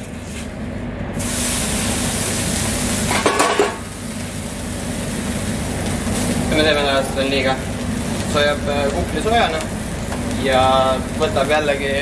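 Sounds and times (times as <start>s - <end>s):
cheese sizzling on griddle: 1.2s - 12.0s.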